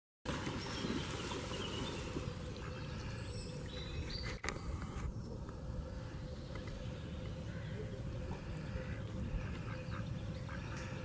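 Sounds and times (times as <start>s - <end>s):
birds chirping: 0.3s - 11.0s
low outdoor rumble: 0.3s - 11.0s.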